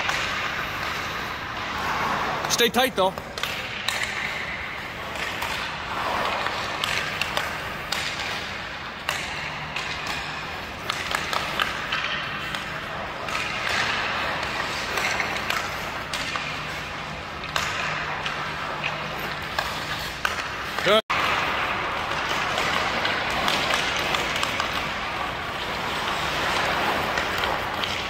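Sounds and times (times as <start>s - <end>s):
hockey stick tapping puck: 0.0s - 1.2s, 2.5s - 28.0s
skate blades scraping ice: 0.0s - 28.0s.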